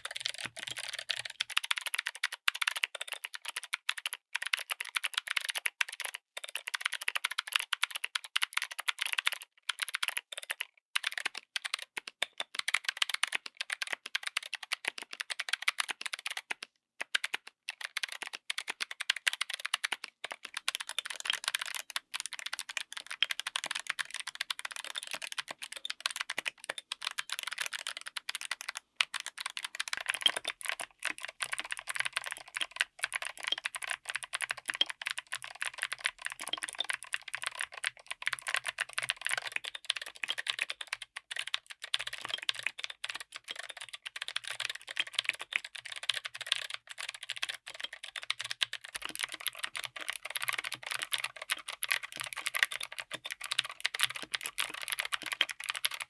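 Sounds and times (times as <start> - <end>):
typing on clicky mechanical keyboard: 0.0 - 56.0.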